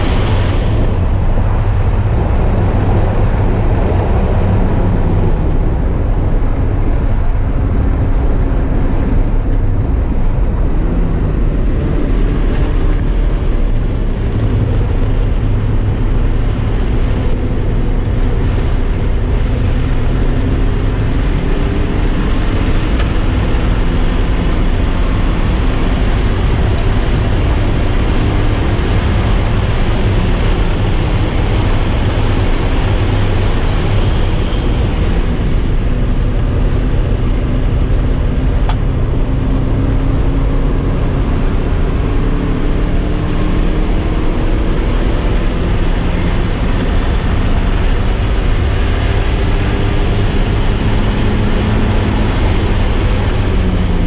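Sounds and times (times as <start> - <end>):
car engine revving: 0.0 - 54.0
wind and road noise: 0.0 - 54.0.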